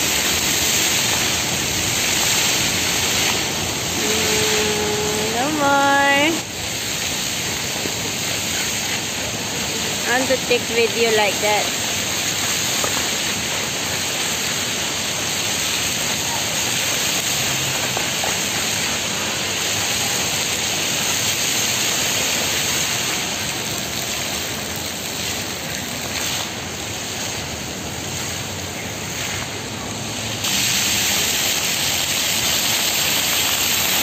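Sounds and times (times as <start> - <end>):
fountain water splashing: 0.0 - 34.0.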